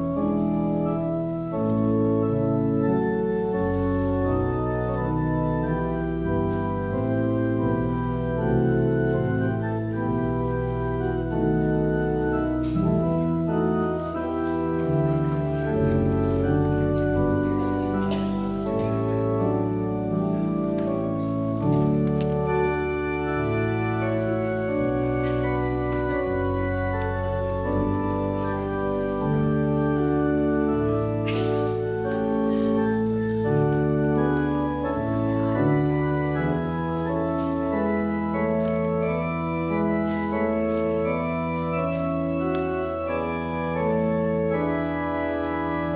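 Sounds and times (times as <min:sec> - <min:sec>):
organ playing slow chords: 0:00.0 - 0:45.9.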